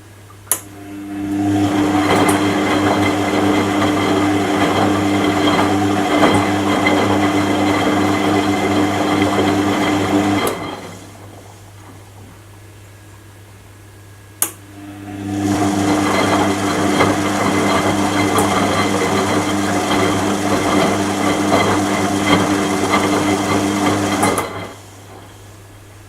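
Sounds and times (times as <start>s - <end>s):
washing machine running: 0.0s - 26.0s.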